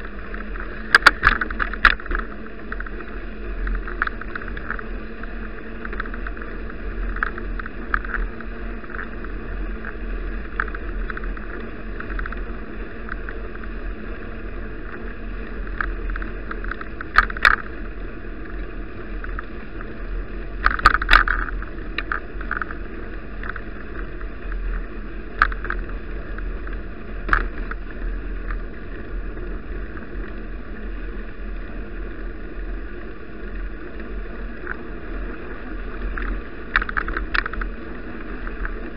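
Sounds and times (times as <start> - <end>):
bicycle rattles and knocks: 0.0 - 38.9
rumble of tyres and wind: 0.0 - 38.9.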